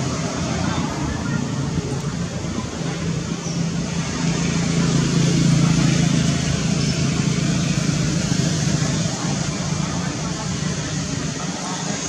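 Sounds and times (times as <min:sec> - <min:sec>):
low engine hum: 0:00.0 - 0:12.0
rushing background noise: 0:00.0 - 0:12.0.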